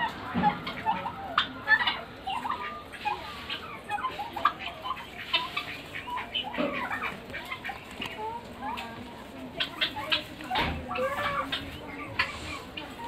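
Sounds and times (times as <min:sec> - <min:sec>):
guineafowl calling: 0:00.0 - 0:13.0.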